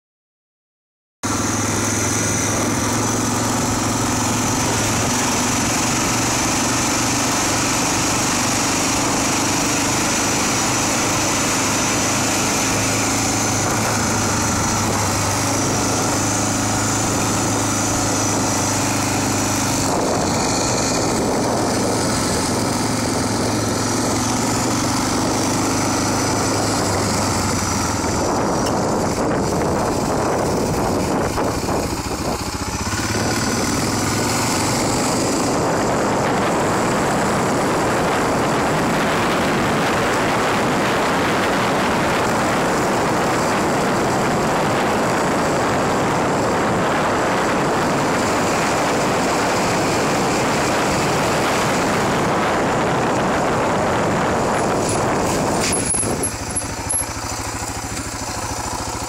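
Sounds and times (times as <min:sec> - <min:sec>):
road noise rush: 0:01.2 - 0:59.0
small engine humming: 0:01.3 - 0:59.0.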